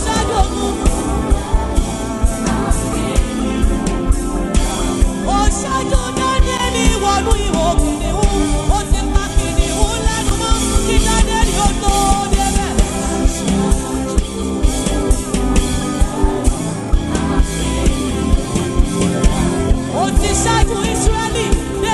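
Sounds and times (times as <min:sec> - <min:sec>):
gospel music: 0:00.0 - 0:21.9
person singing: 0:00.0 - 0:21.9
steady drum beat: 0:00.0 - 0:21.9.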